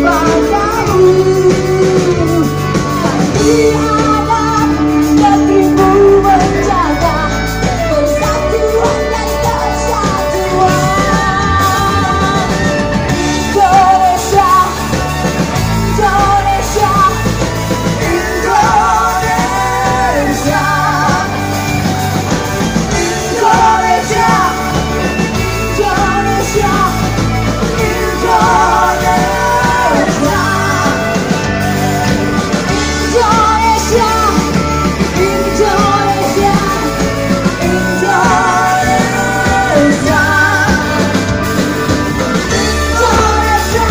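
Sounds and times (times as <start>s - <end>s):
live rock band: 0.0s - 43.9s
woman singing: 0.0s - 43.9s.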